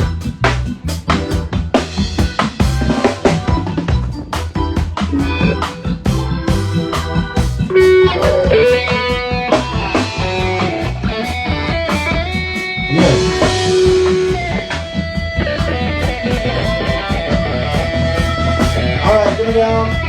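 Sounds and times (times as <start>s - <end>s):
bass guitar: 0.0s - 20.0s
drum kit beat: 0.0s - 20.0s
electric guitar with bent notes: 0.0s - 20.0s.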